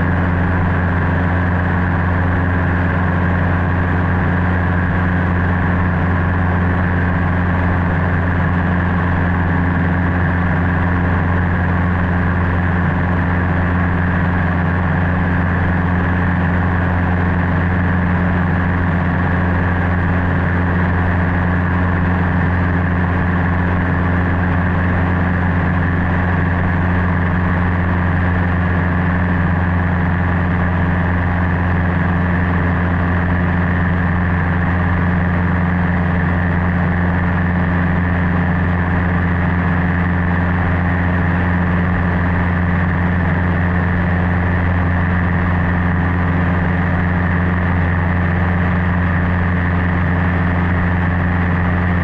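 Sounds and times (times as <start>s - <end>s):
light aircraft engine droning: 0.0s - 52.0s.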